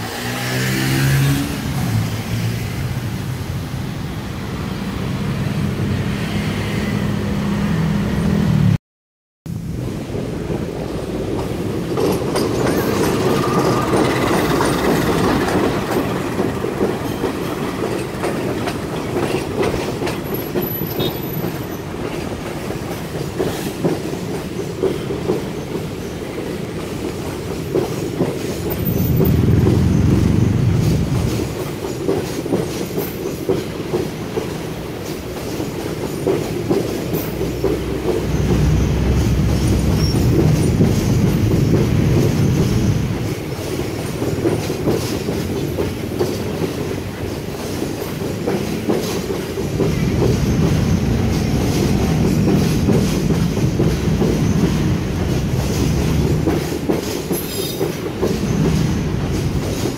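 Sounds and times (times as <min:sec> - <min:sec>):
deep train rumble: 0:09.5 - 0:59.9
train wheels clattering: 0:10.0 - 0:59.9.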